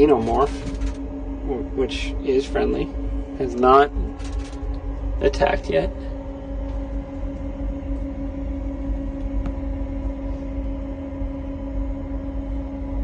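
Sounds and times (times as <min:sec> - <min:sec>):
air circulation fans humming: 0:00.0 - 0:13.0
low rumble: 0:00.0 - 0:13.0.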